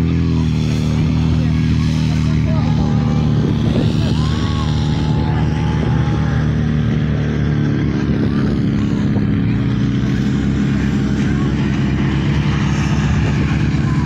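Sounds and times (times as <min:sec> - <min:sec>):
distant shouting: 0:00.0 - 0:14.0
pump engine running: 0:00.0 - 0:14.0.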